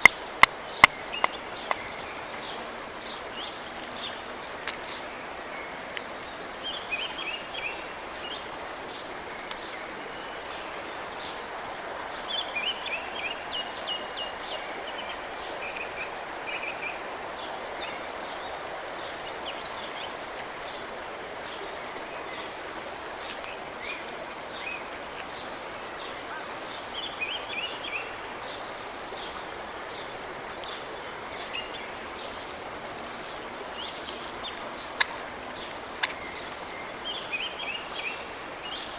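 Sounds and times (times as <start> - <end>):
songbirds chirping and trilling: 0.0 - 9.6, 13.5 - 38.9.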